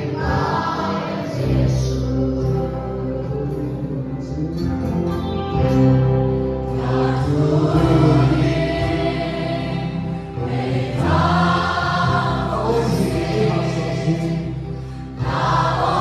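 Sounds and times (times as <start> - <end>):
congregation singing a hymn: 0.0 - 4.7, 6.4 - 16.0.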